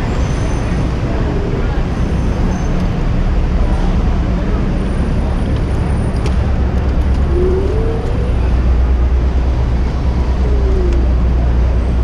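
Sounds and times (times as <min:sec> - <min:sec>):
city street traffic: 0:00.0 - 0:12.0
wind rumble on microphone: 0:00.0 - 0:12.0.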